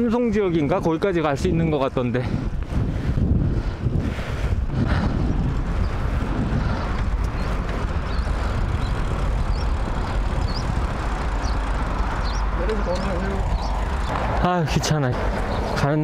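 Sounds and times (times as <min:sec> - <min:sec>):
bicycle road rumble: 0:00.0 - 0:16.0
wind noise: 0:00.0 - 0:16.0.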